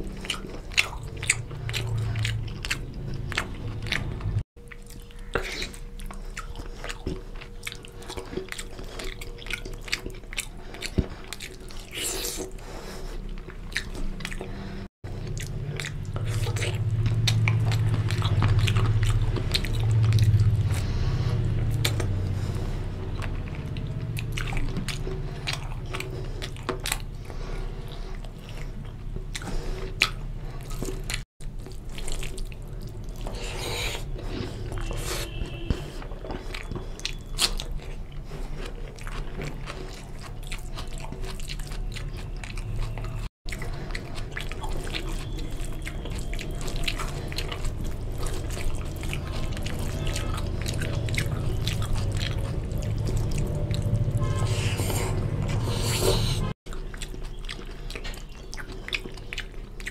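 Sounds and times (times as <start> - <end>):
steady low hum: 0.0 - 56.8
wet chewing and lip smacks: 0.0 - 59.9.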